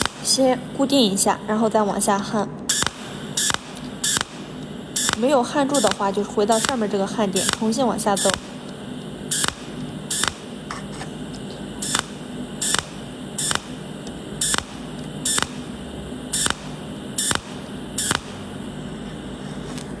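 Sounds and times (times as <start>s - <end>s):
welding arc buzzing hiss: 0.0s - 20.0s
welding hissing surges: 0.0s - 20.0s.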